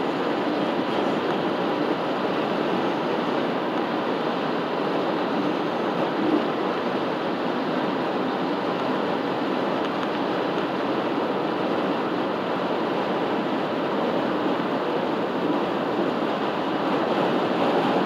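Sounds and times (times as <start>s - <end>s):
road and wind noise inside car: 0.0s - 18.0s.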